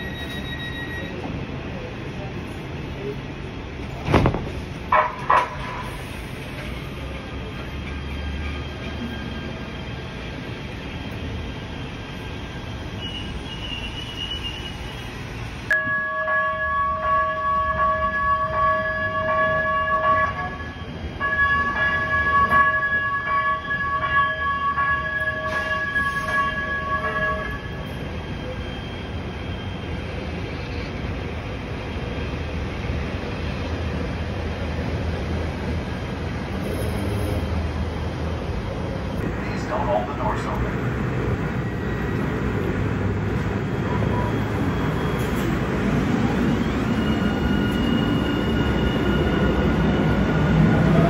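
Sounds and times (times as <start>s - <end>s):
train pulsing warning signal: 0.0s - 1.4s, 4.9s - 32.5s, 39.1s - 51.0s
street traffic: 0.0s - 51.0s
train rumble: 0.0s - 51.0s.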